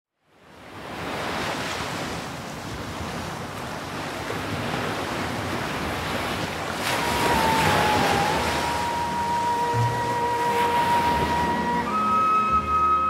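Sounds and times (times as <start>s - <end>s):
small waves washing: 0.7s - 12.9s
wind buffeting microphone: 1.9s - 12.6s.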